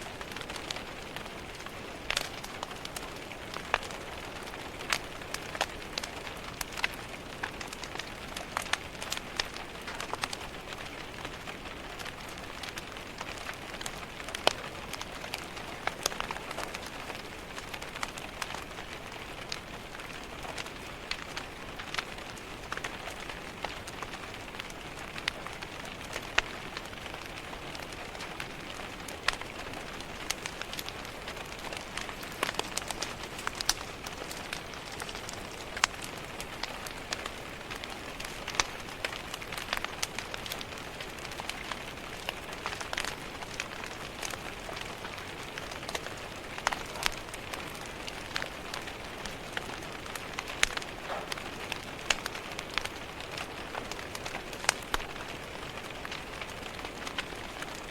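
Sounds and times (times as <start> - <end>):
rain tapping on a window: 0.0 - 57.9
wood fire crackling: 0.0 - 57.9.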